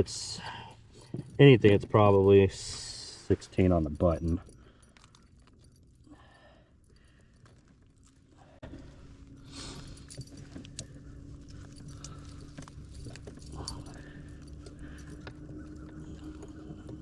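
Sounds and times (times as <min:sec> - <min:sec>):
gear clicking and rattling: 0:00.0 - 0:17.0.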